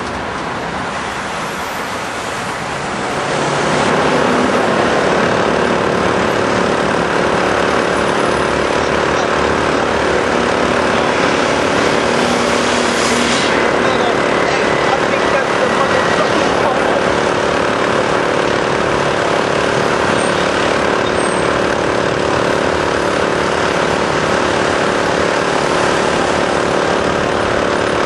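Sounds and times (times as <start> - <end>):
heavy engine running: 0.0 - 28.0
traffic noise: 0.0 - 28.0.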